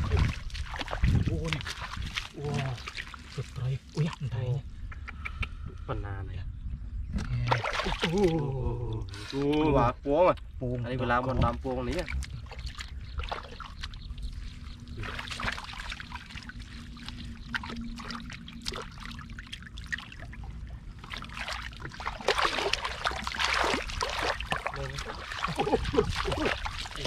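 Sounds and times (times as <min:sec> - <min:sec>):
muddy water splashing: 0:00.0 - 0:05.6, 0:07.2 - 0:10.0, 0:10.8 - 0:27.0.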